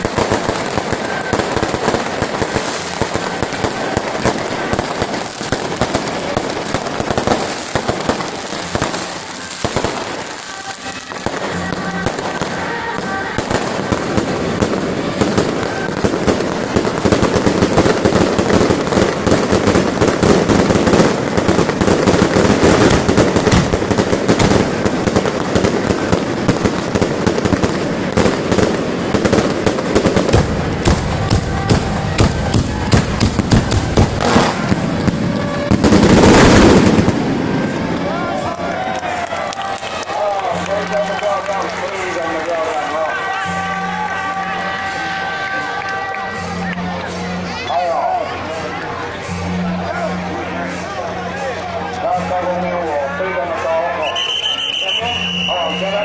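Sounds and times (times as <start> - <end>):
fireworks crackling and popping: 0.0 - 56.0.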